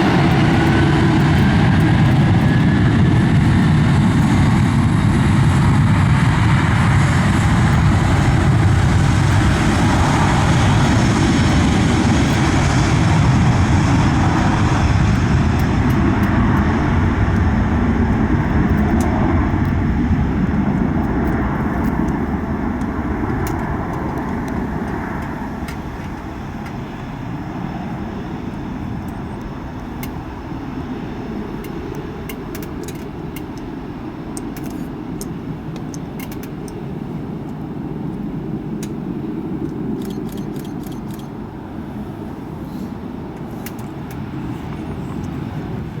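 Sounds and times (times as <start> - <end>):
jet engines rumbling: 0.0 - 46.0.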